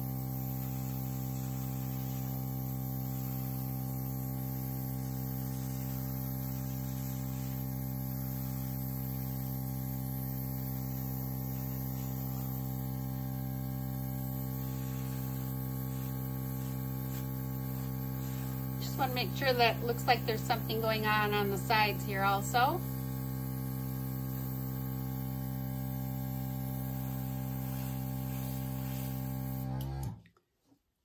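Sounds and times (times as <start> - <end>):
airbrush hiss of air: 0.0 - 29.6
air compressor humming: 0.0 - 30.2.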